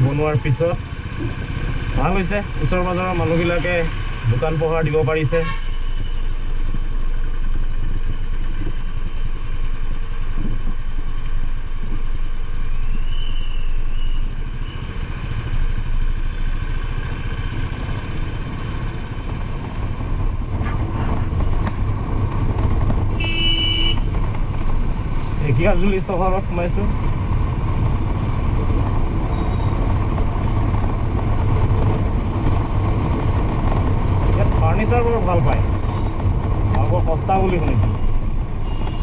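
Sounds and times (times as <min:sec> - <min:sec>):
motorcycle engine running: 0:00.0 - 0:05.2, 0:05.8 - 0:39.0
town traffic: 0:00.0 - 0:39.0.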